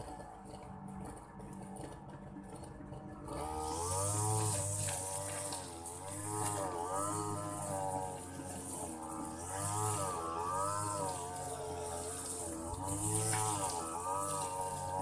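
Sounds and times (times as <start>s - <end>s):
small engine running unevenly: 0.0s - 15.0s.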